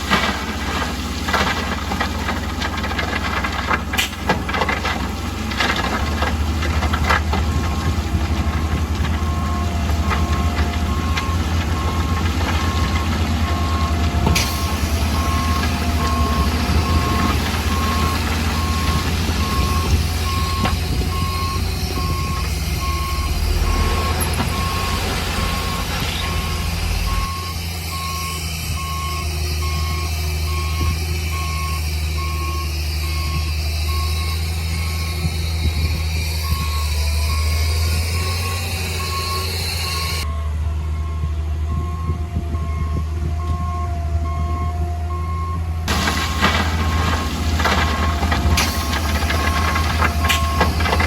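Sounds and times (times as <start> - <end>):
heavy machine engine rumble: 0.0 - 51.0
reversing alarm beeping: 9.2 - 51.0.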